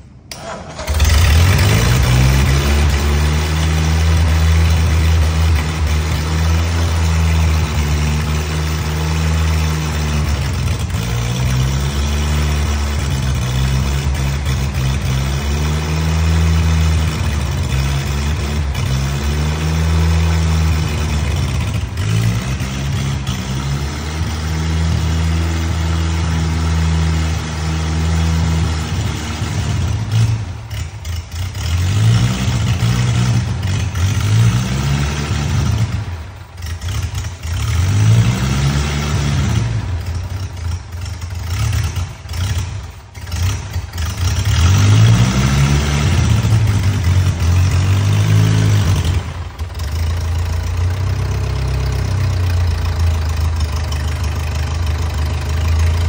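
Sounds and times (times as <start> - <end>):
engine running unevenly: 0.3 - 56.0.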